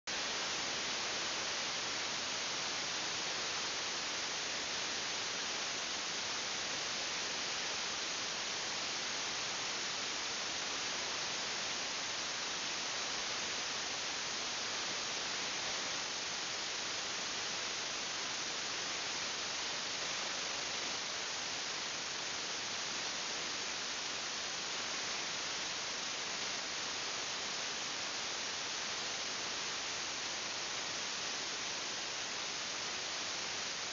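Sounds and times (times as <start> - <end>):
recording hiss: 0.0 - 33.9.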